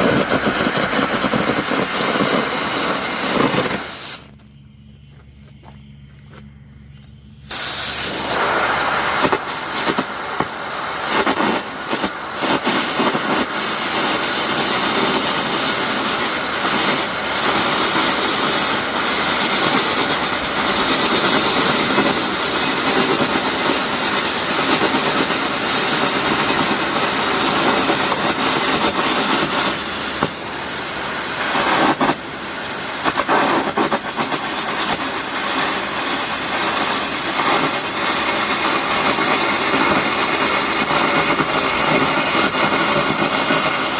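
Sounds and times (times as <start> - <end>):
arc gouging crackling hiss: 0.0 - 43.9.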